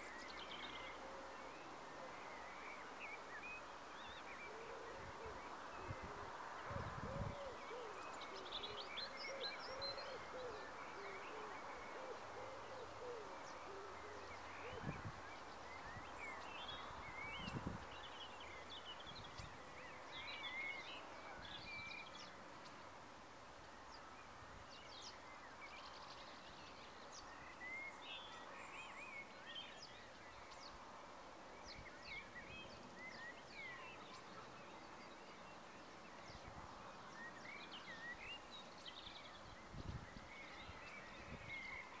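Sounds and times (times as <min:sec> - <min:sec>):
small birds chirping and twittering: 0:00.0 - 0:42.0.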